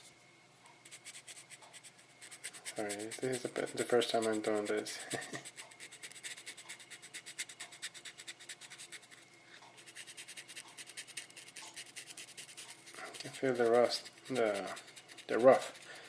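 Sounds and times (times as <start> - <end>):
sandpaper rubbing on paint: 0.9 - 9.2, 9.8 - 16.0.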